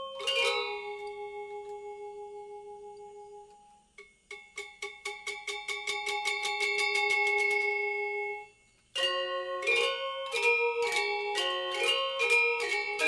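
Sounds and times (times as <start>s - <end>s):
melody of struck ringing notes: 0.0s - 13.0s.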